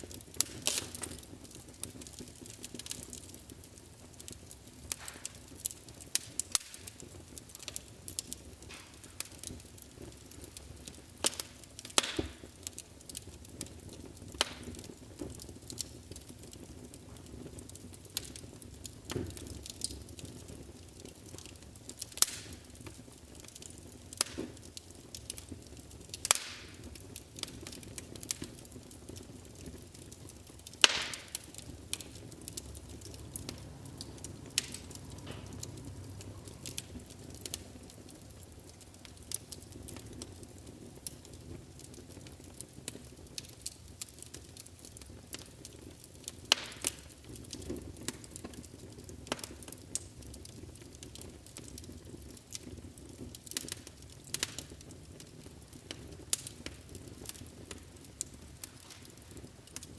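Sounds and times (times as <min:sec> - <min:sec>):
low steady hiss: 0:00.0 - 0:59.9
wood fire crackling: 0:00.0 - 0:59.9.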